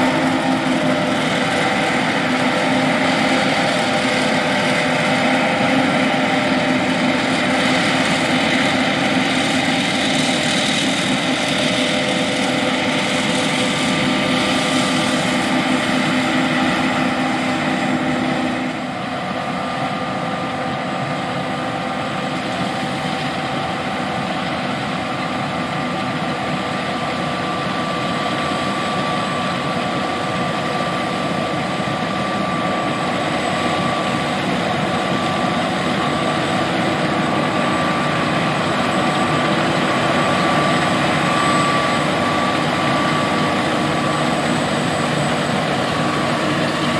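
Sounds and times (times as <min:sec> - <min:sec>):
combine harvester drone: 0:00.0 - 0:46.9
constant whining tones: 0:00.0 - 0:46.9.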